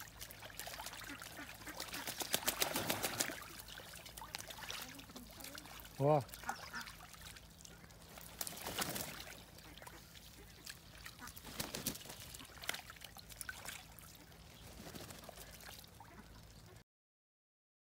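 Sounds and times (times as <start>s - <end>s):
duck flapping wings in water: 0.0s - 16.3s
ducks splashing in water: 0.0s - 16.8s.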